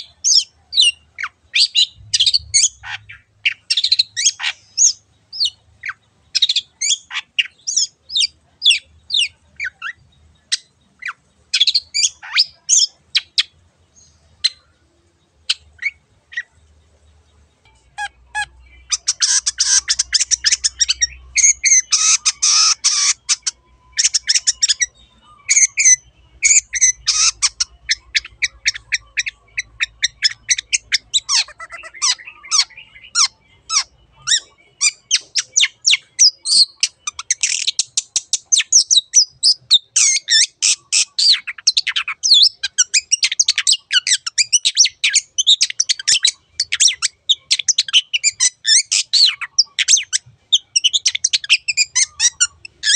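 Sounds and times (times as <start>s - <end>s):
bird chattering song: 0.0s - 52.9s.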